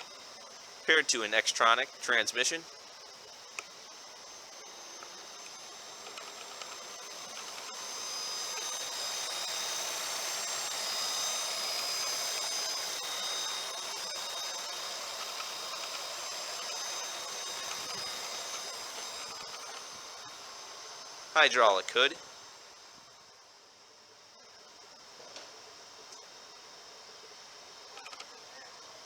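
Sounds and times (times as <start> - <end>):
car engine whirring with whines: 0.0 - 29.0.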